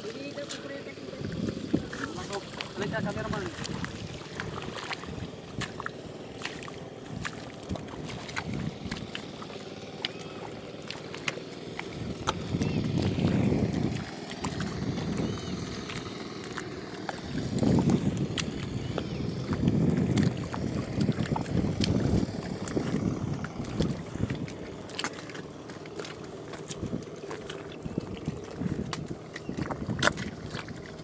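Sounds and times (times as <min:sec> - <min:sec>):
low rumbles: 0:00.0 - 0:31.0
mud and water squelching: 0:00.0 - 0:31.0
small wet clicks: 0:01.2 - 0:31.0.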